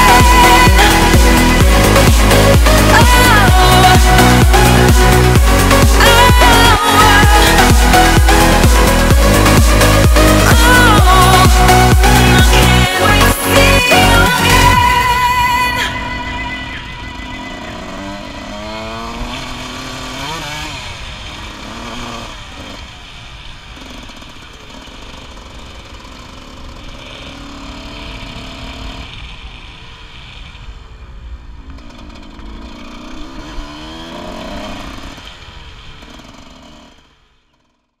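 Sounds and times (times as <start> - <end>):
dirt bike engine revving: 0.0 - 30.8, 31.6 - 38.0.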